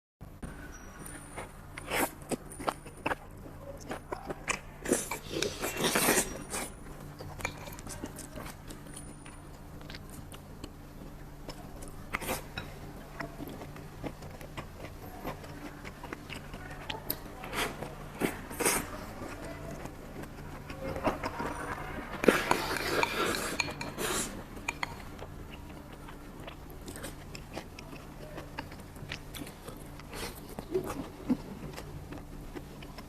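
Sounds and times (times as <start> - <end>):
steady low hum: 0.2 - 33.0.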